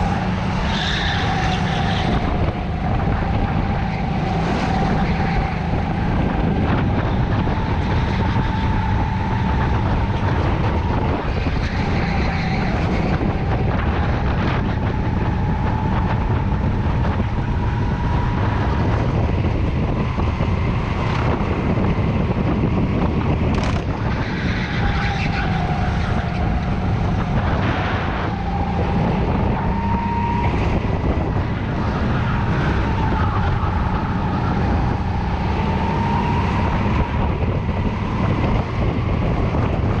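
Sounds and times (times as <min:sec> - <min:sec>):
go-kart engine: 0:00.0 - 0:40.0
wind on microphone: 0:00.0 - 0:40.0.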